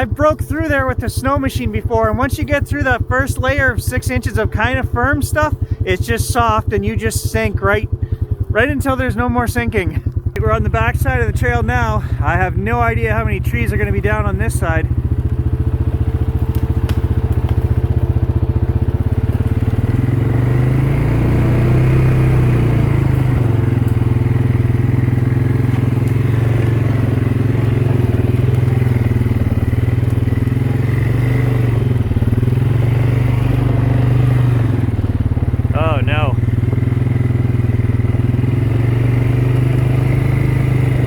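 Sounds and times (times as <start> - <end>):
motorbike engine running: 0.0 - 41.0.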